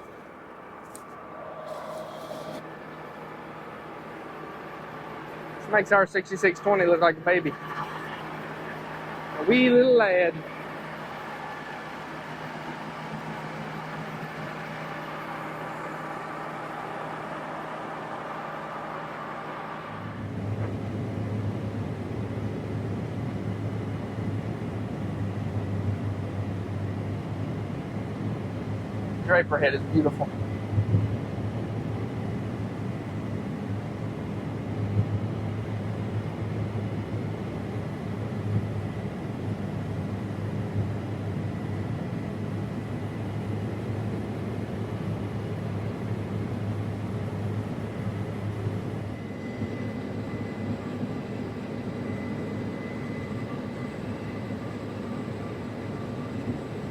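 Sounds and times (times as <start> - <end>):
combine harvester running: 0.0 - 56.9
faint high whine: 0.0 - 56.9.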